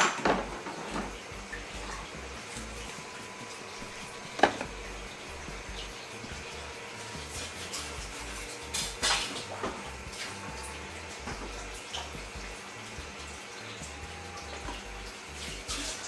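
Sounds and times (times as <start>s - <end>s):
cabbage sizzling in a pan: 0.0s - 16.0s.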